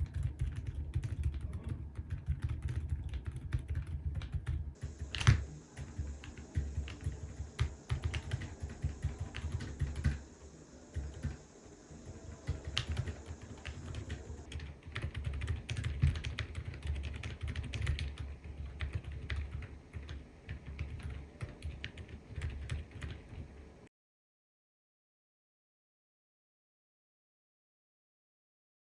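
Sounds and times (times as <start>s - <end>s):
quiet keyboard typing: 0.0s - 23.7s.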